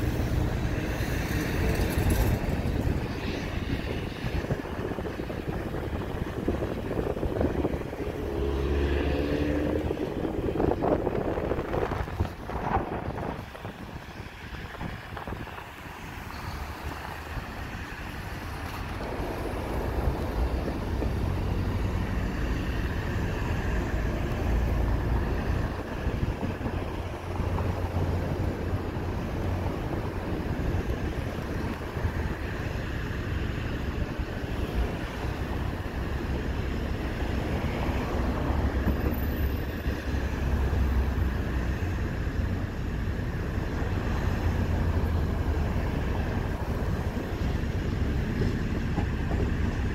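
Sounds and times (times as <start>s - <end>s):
diesel locomotive engine droning: 0.0s - 49.9s.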